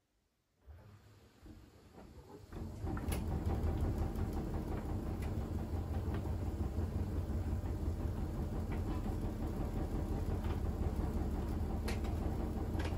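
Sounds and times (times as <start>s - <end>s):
washing machine drum rumble: 2.0s - 12.9s.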